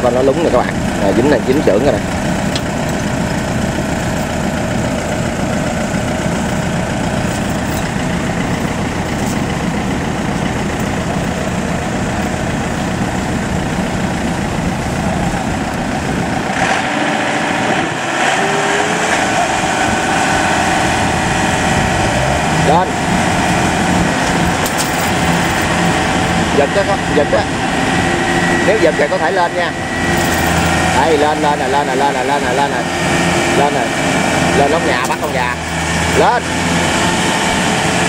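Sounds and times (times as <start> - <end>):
combine harvester engines: 0.0 - 38.0.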